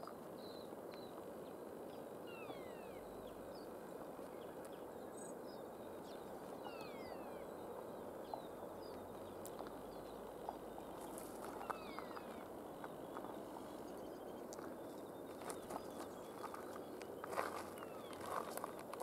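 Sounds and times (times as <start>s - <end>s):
faint steady rushing: 0.7s - 19.0s
small birds whistling: 2.2s - 3.7s, 4.3s - 19.0s.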